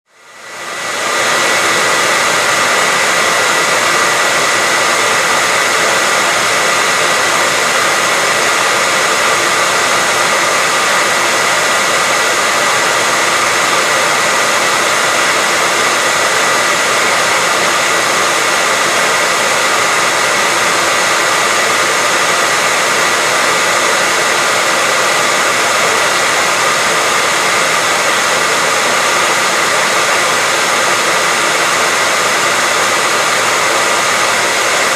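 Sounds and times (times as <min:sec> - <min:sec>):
hair dryer running: 0:00.1 - 0:34.9.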